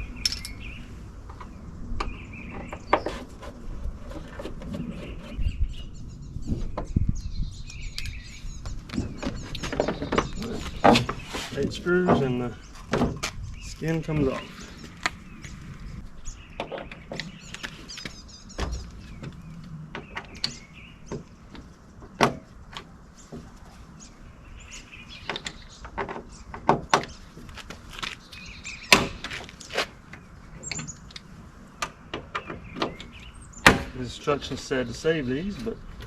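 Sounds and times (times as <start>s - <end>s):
birds chirping faintly: 0.0s - 36.0s.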